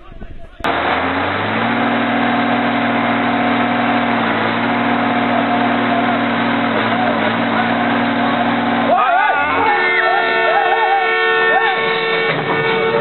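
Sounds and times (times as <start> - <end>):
thin steady whine: 0.0 - 13.0
heavy truck engine running: 0.4 - 13.0.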